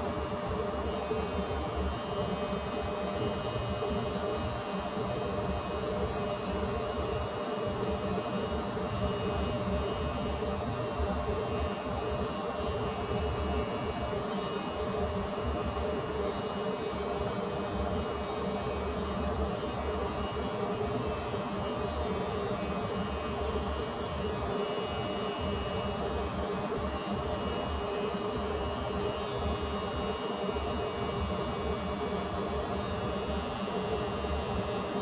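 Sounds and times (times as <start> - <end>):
electric hair clippers buzzing: 0.0 - 35.0.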